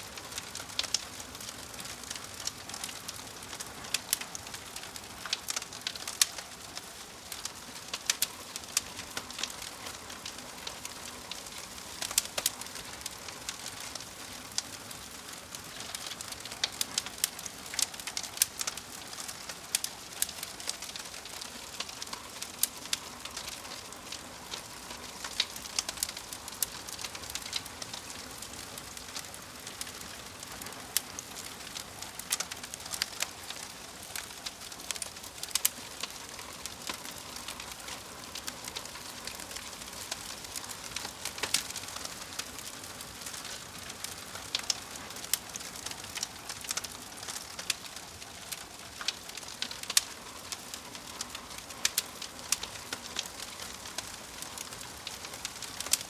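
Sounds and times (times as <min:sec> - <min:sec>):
wood fire crackling: 0:00.0 - 0:56.0
fire hissing: 0:00.2 - 0:56.0.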